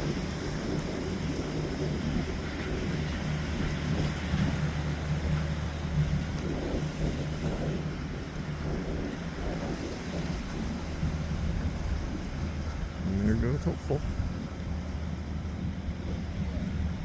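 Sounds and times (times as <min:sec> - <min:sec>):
boat engine humming: 0:00.0 - 0:17.0
wind buffeting microphone: 0:00.0 - 0:17.0.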